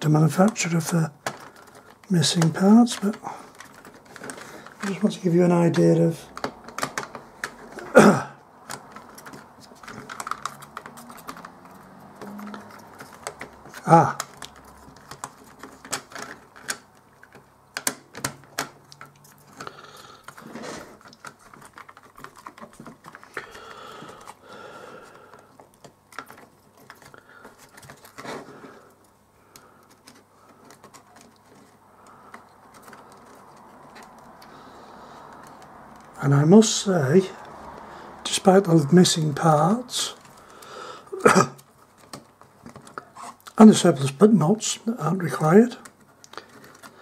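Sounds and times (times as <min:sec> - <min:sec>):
plastic case parts clicking: 0:00.4 - 0:36.2, 0:41.6 - 0:44.4, 0:45.1 - 0:47.0.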